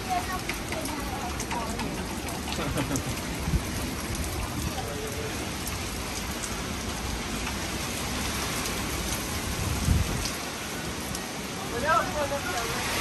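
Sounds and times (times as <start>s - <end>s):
heavy rain pouring: 0.0s - 13.0s
wind rumbling on microphone: 1.4s - 13.0s.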